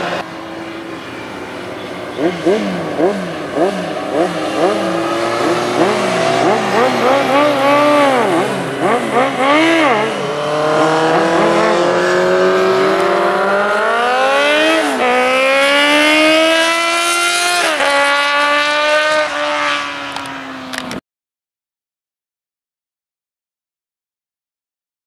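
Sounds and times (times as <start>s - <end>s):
racing motorcycle engine accelerating: 0.0s - 21.0s.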